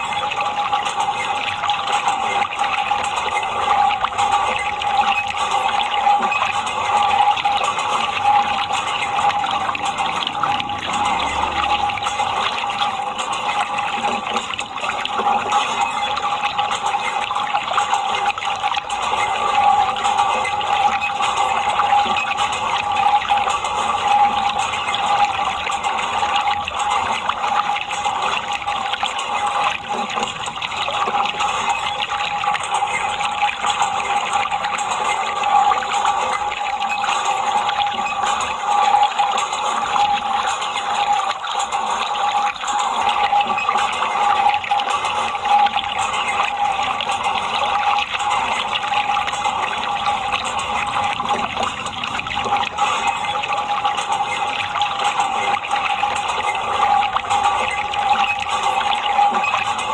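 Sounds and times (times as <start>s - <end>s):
constant hum: 0.0s - 59.9s
water running and splashing: 0.0s - 59.9s.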